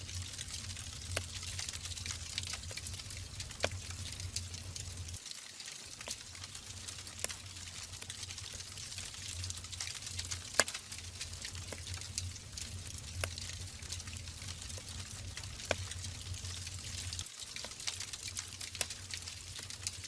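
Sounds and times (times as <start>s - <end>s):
logs crackling in fireplace: 0.0s - 20.0s.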